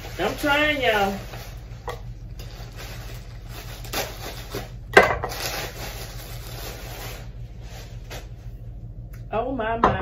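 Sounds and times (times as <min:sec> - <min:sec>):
bubble wrap rustling and crinkling: 0:00.0 - 0:08.7.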